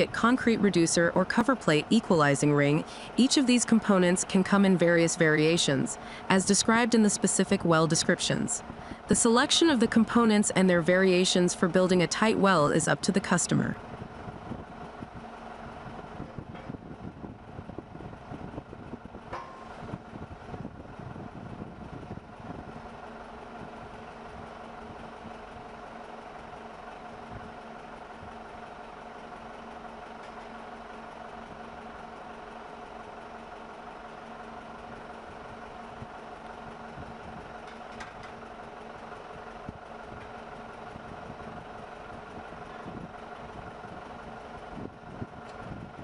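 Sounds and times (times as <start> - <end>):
excavator engine idling: 0.0 - 46.0.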